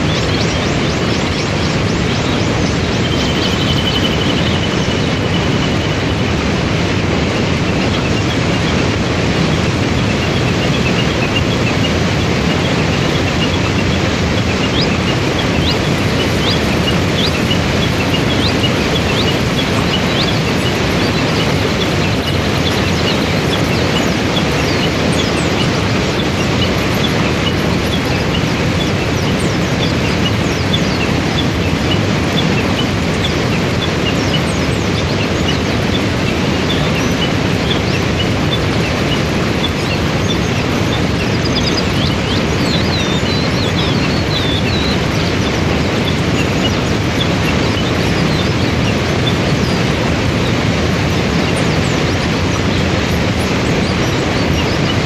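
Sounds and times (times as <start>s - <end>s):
birds chirping: 0.0s - 55.0s
roar of rushing water: 0.0s - 55.0s.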